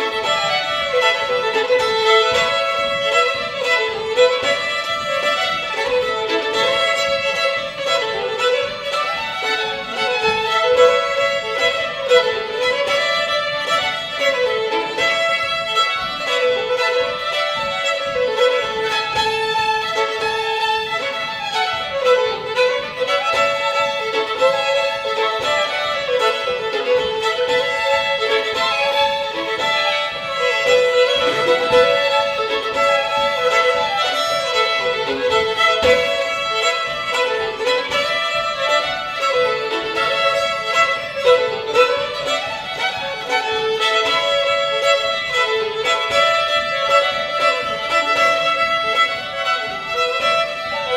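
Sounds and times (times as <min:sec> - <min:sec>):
fiddle drone note: 0:00.0 - 0:50.9
fiddles playing a fast reel: 0:00.0 - 0:50.9.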